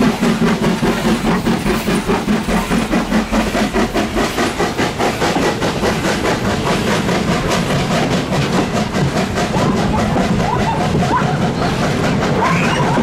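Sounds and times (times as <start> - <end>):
steam locomotive chuffing: 0.0 - 13.0
train wheels clacking on track: 0.0 - 13.0.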